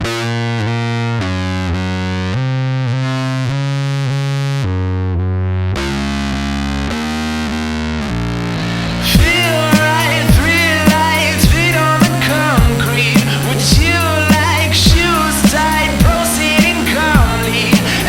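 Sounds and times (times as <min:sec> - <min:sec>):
heavily distorted instrument: 0:00.0 - 0:18.0.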